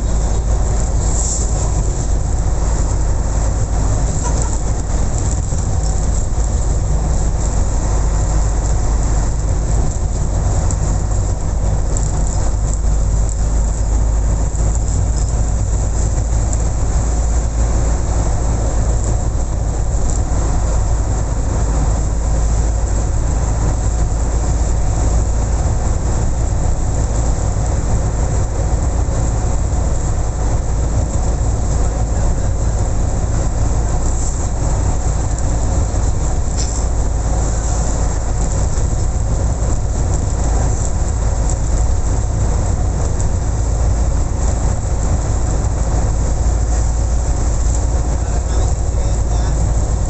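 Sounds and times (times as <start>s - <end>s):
vehicle rumbling: 0.0s - 50.0s.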